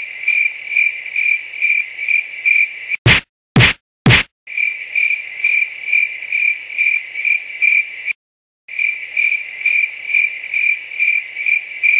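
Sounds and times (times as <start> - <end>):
crickets chirping: 0.0 - 3.0, 4.5 - 11.9.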